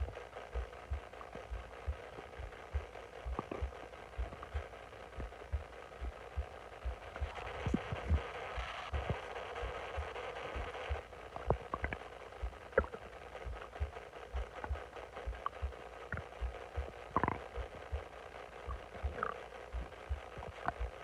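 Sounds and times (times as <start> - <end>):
low dull thumps: 0.0 - 21.0
stomach gurgling: 0.0 - 21.0.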